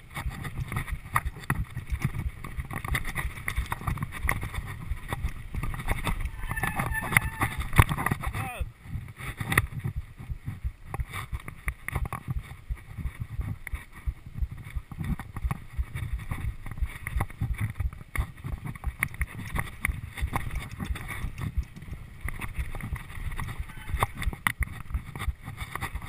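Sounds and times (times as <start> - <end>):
bike rattling over bumps: 0.0 - 26.0
bike tyres crunching on dirt: 0.0 - 26.0
wind rumble on microphone: 0.0 - 26.0.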